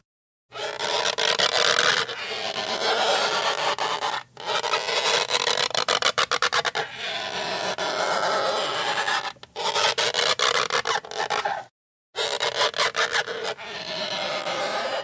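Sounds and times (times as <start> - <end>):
rubber squeaking on surface: 0.5 - 15.0.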